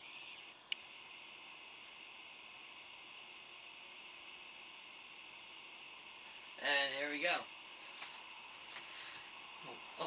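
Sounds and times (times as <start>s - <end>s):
faint high-pitched buzzing hiss: 0.0s - 10.0s.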